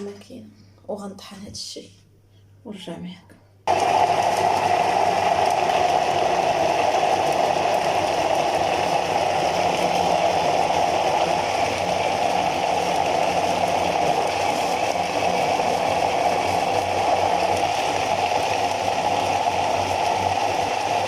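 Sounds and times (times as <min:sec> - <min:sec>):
electric blender motor running: 0:03.7 - 0:21.0.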